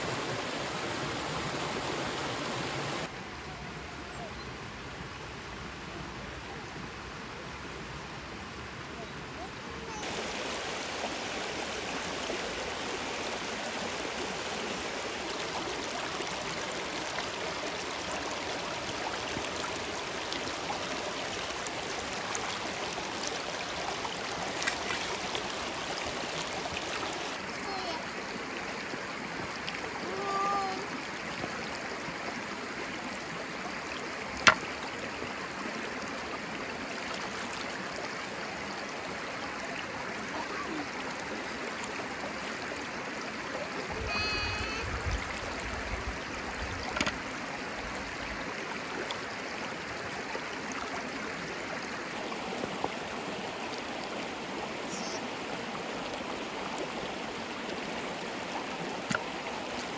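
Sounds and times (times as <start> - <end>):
stream rippling over stones: 0.0 - 59.9.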